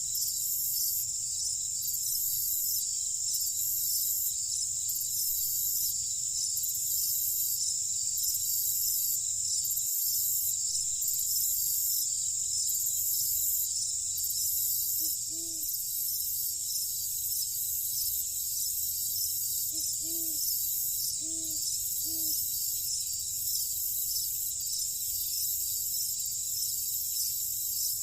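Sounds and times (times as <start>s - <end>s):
crickets trilling: 0.0s - 28.0s.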